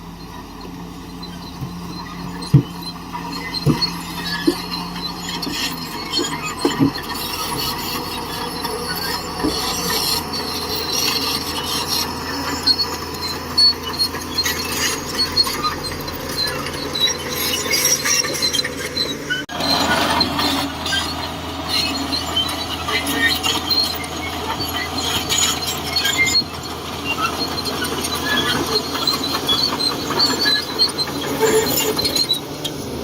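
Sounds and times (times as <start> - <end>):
bulldozer diesel engine running: 0.0 - 33.0
steel tracks squealing and clanking: 0.0 - 33.0.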